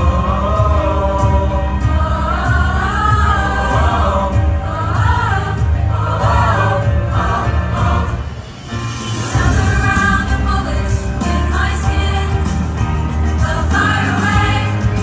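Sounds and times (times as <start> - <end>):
choir with instrumental accompaniment: 0.0 - 15.0
heavy bass line: 0.0 - 15.0.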